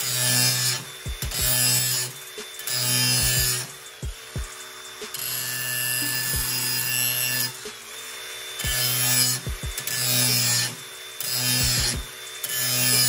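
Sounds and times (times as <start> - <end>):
angle grinder motor humming: 0.0 - 13.0
disc grinding metal blade: 0.0 - 13.0.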